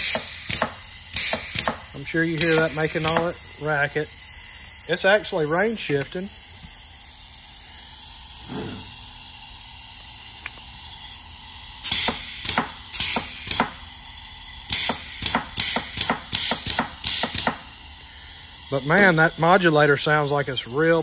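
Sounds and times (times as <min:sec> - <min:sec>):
sharp air blasts: 0:00.0 - 0:20.3
compressed air hissing: 0:00.0 - 0:21.0.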